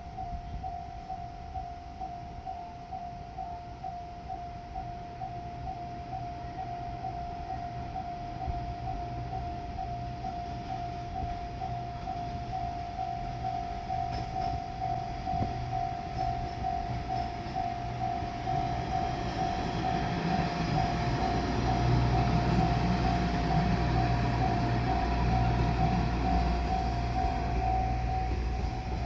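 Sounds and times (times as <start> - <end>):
diesel railcar engine rumble: 0.0 - 29.0
level crossing warning bell: 0.0 - 29.0.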